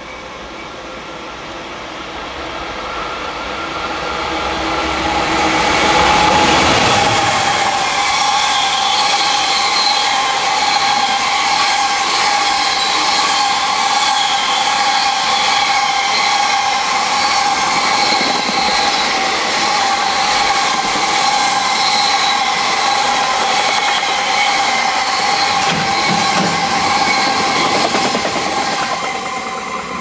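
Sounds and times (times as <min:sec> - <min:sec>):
steel wheels rushing on rail: 0:00.0 - 0:30.0
train wheel whine: 0:00.0 - 0:30.0.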